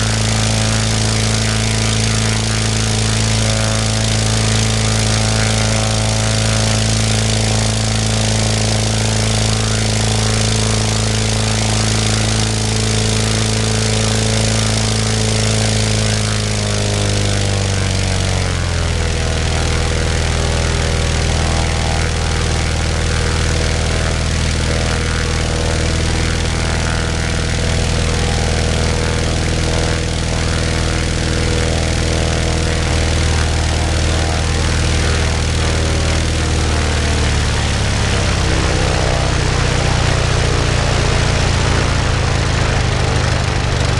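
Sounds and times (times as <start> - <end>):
propeller aircraft engine running: 0.0 - 43.9.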